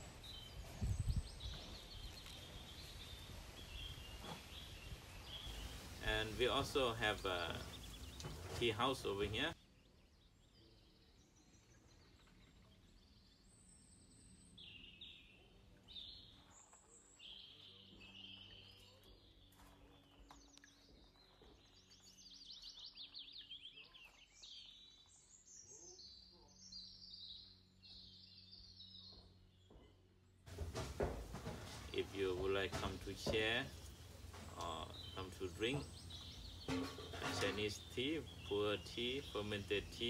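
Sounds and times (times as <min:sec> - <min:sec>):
small birds chirping and trilling: 0:00.0 - 0:40.0.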